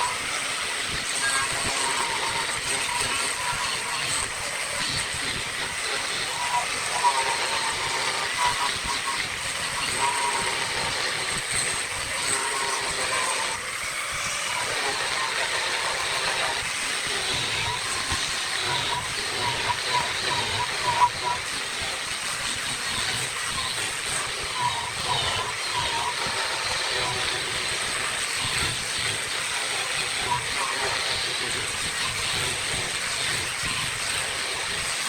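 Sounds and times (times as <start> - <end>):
wood lathe tool hissing: 0.0 - 35.0.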